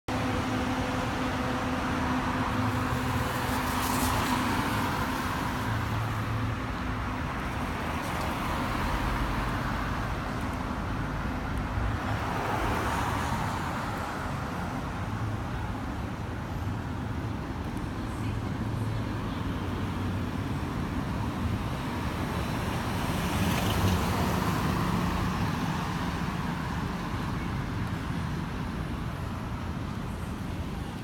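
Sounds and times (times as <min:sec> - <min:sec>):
road traffic passing: 0:00.1 - 0:31.0.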